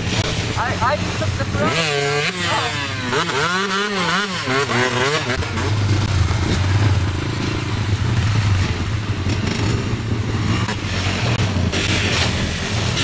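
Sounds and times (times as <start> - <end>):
quad and dirt bike engines droning: 0.0 - 13.0.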